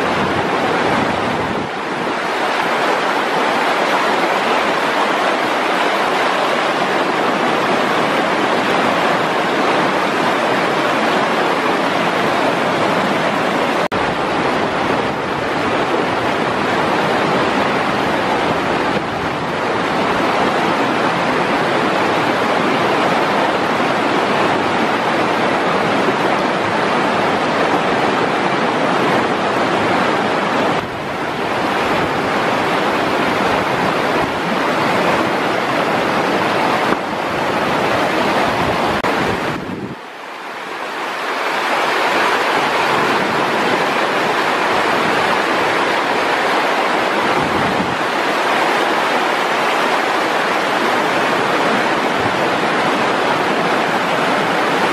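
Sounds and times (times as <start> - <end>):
river rapids rushing: 0.0 - 54.9.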